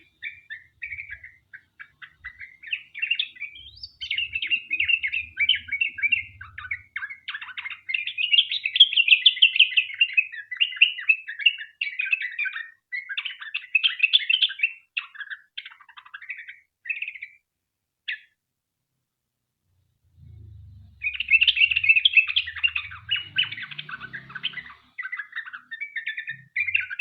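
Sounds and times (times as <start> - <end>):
bird singing chattering notes: 0.0 - 16.5, 20.3 - 27.0.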